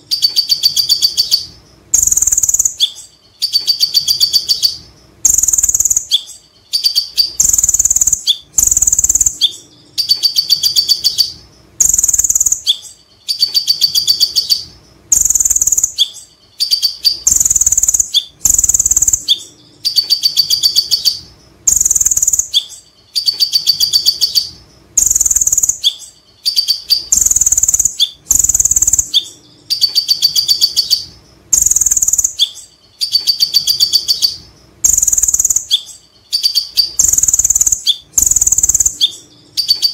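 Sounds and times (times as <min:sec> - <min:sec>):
sharp ticking bird notes: 0:00.0 - 0:39.9
sunbird singing high whistles: 0:00.1 - 0:39.9.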